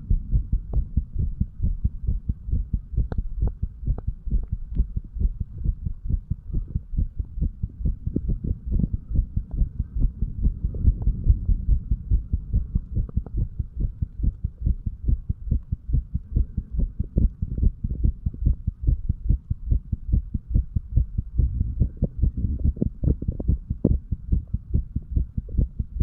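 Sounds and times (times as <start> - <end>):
heartbeat low thumps: 0.0 - 26.0.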